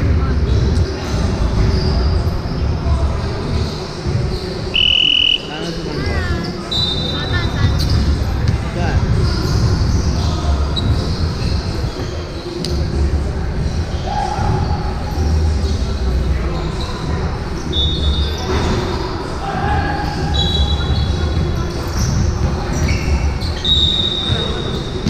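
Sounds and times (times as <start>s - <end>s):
players' voices: 0.0s - 25.0s
sneakers squeaking: 0.3s - 25.0s.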